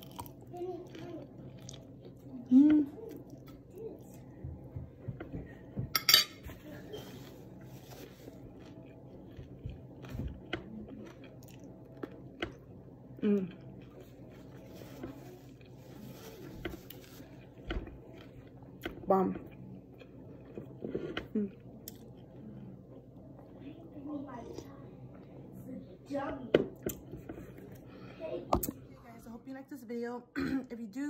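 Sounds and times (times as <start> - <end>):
quiet chewing: 0.0 - 5.8, 6.6 - 25.7.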